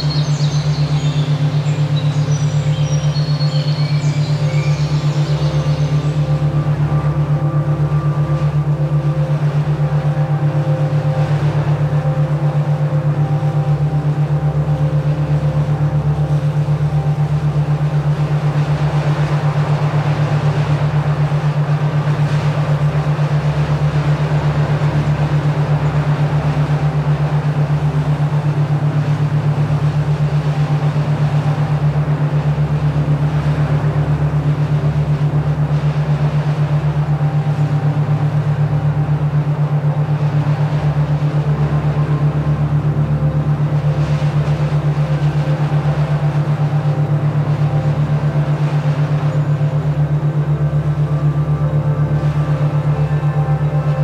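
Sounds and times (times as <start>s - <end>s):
pulsing low hum tone: 0.0s - 54.0s.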